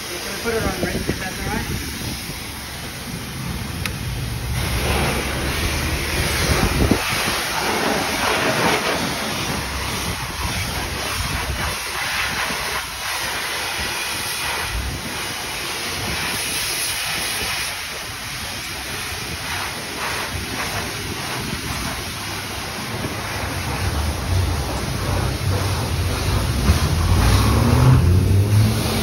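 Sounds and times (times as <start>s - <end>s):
high-pressure water spray hissing: 0.0s - 29.0s.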